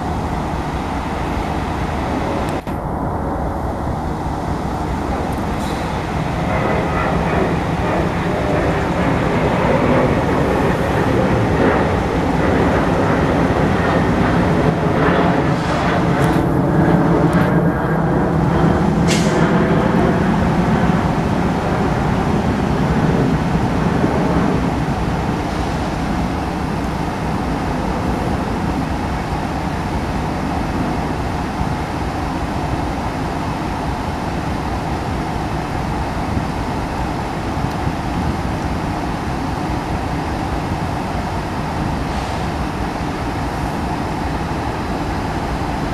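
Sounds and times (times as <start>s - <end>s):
diesel locomotives running: 0.0s - 45.9s.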